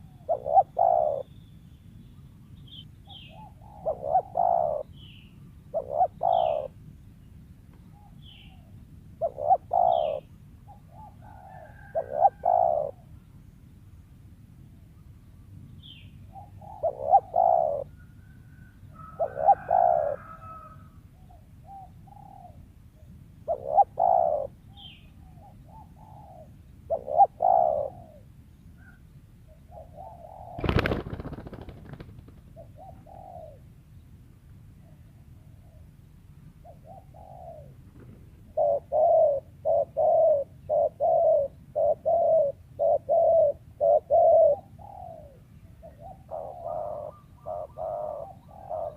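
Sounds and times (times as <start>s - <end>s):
dove cooing: 0.0s - 1.3s, 2.7s - 6.8s, 7.9s - 13.1s, 16.3s - 33.7s, 34.8s - 48.9s.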